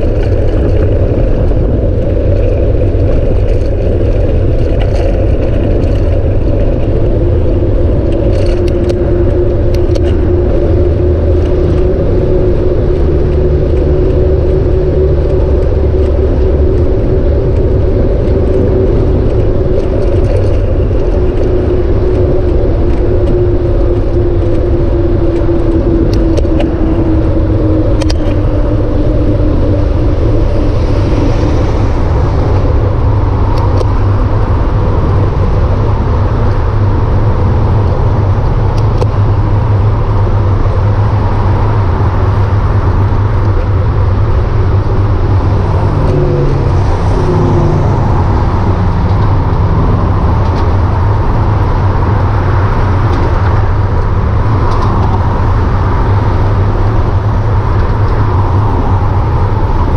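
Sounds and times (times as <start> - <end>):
freeway traffic passing: 0.0 - 59.9
steady hum: 0.0 - 59.9
wind rushing over microphone: 0.0 - 59.9.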